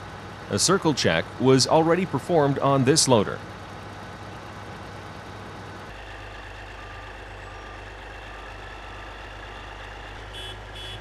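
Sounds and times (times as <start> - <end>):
heavy diesel machinery droning: 0.0 - 11.0.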